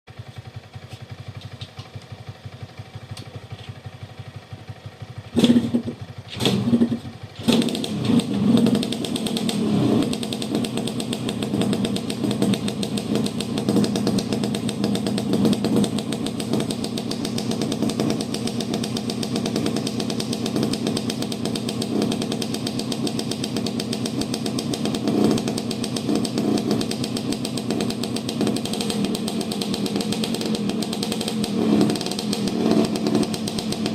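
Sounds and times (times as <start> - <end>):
two-stroke motorcycle engine: 0.1 - 33.9.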